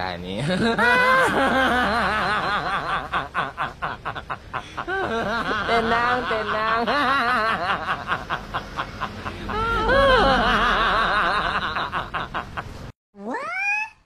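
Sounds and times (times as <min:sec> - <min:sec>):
person laughing hard: 0:00.5 - 0:12.6.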